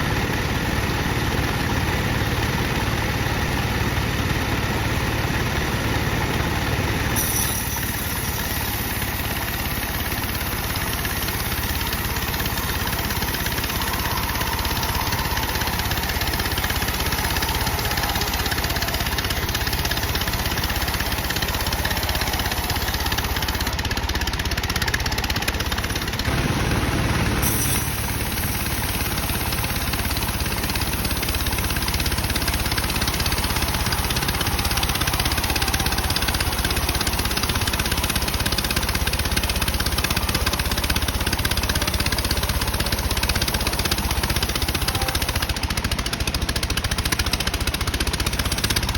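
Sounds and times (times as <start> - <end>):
bandsaw mill sawing wood: 0.0 - 48.9.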